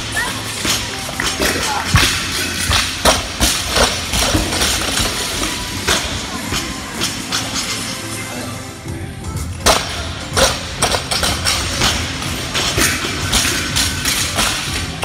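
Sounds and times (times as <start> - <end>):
music: 0.0 - 15.0.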